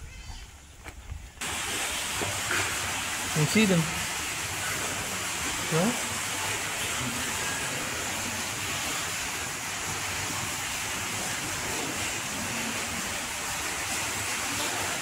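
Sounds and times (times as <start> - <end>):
rushing water: 0.7 - 15.0.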